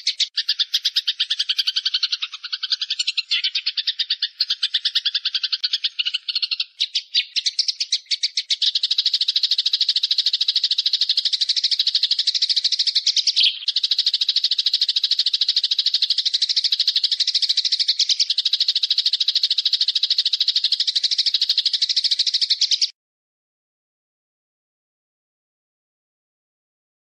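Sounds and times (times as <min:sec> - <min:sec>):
bird rattling trill: 0:00.0 - 0:22.9.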